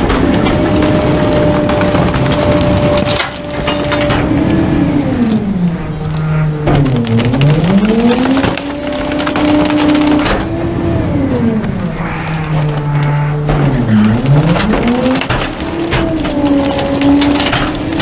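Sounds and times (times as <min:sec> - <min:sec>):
garbage truck packer crushing furniture: 0:00.0 - 0:18.0
truck engine running: 0:00.0 - 0:18.0
wooden frame cracking and splintering: 0:00.0 - 0:18.0.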